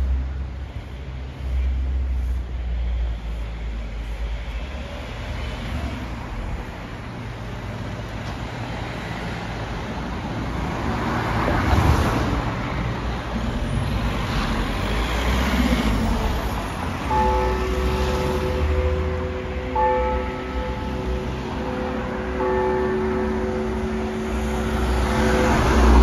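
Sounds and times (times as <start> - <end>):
cars driving past: 0.0 - 26.0.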